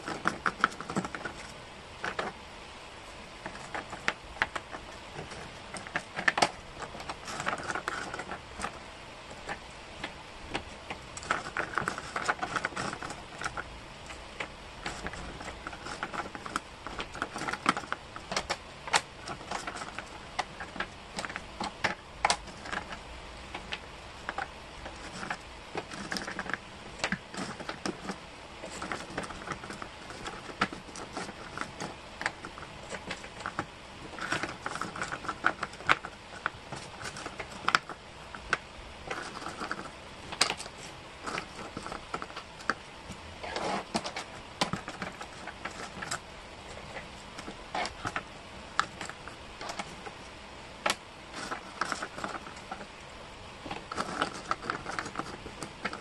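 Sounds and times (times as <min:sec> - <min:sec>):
wooden jigsaw pieces clattering: 0:00.0 - 0:02.4, 0:03.3 - 0:50.2, 0:50.8 - 0:53.0, 0:53.6 - 0:56.0.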